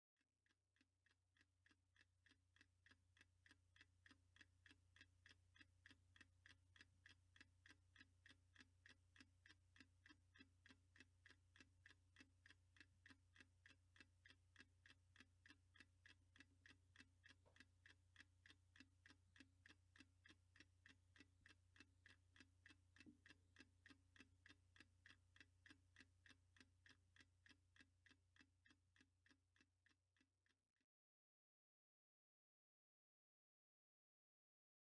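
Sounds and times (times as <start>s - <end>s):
steady mechanical ticking: 1.0s - 30.0s.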